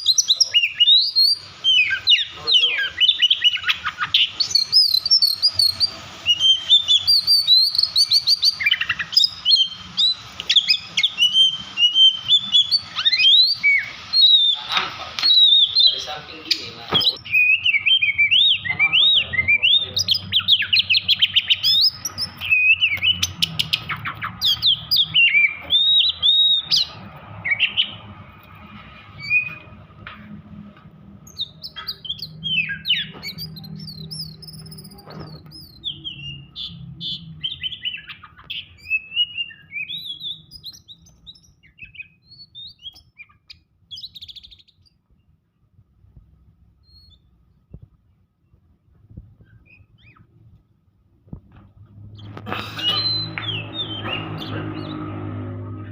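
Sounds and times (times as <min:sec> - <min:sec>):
bird singing sharp whistles: 0:00.0 - 0:28.0, 0:29.2 - 0:29.8, 0:31.2 - 0:44.9, 0:46.8 - 0:47.3, 0:52.2 - 0:55.2.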